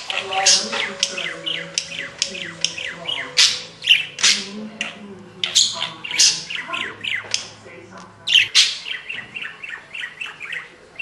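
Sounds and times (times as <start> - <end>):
slowed budgerigar chirping: 0.0 - 7.6, 8.3 - 11.0.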